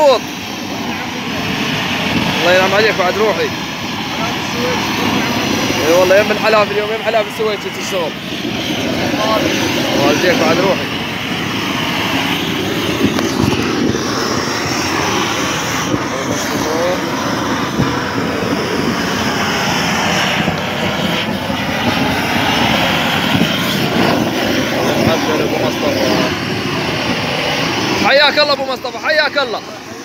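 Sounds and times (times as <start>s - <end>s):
roofing torch flame rushing: 0.0s - 30.0s.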